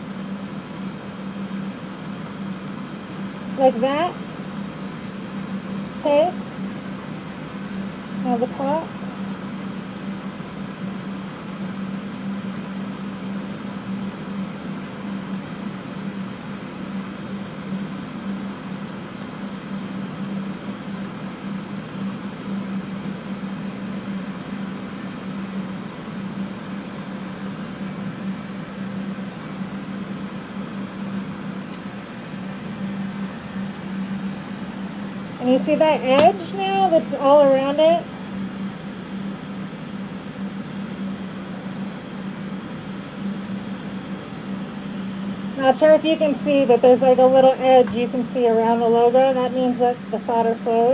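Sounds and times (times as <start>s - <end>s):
steady low hum: 0.0s - 50.9s
ventilation fans whirring: 0.0s - 50.9s.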